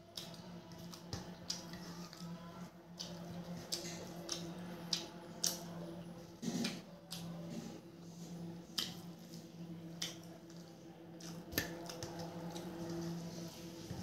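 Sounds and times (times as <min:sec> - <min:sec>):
wet squishes of food mixed by hand: 0:00.0 - 0:14.0.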